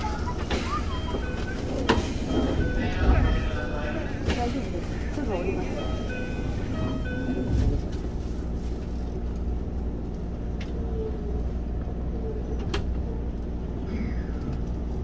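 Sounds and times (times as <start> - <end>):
train car rumble: 0.0 - 15.0.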